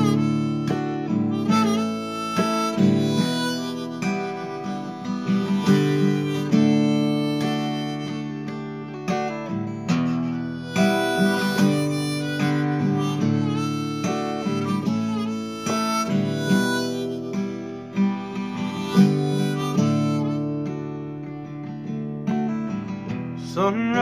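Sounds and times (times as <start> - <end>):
harmonica playing folk melody: 0.0 - 23.0
acoustic guitar strummed chords: 0.0 - 24.0.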